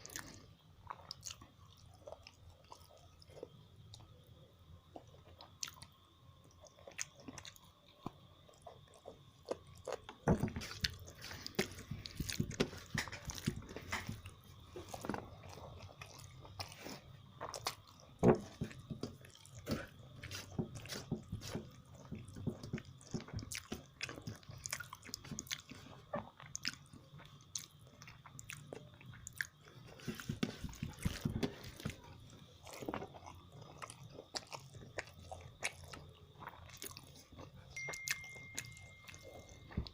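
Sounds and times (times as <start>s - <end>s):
close chewing and biting: 0.0s - 3.6s, 8.5s - 39.9s.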